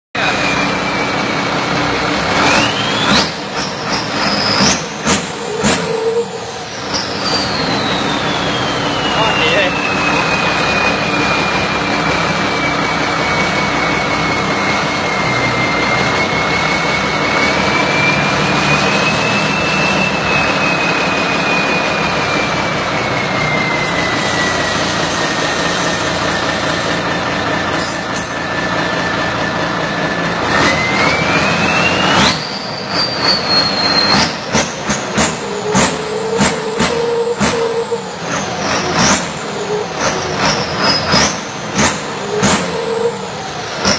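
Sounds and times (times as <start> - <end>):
harvester engine high whine: 0.1 - 43.9.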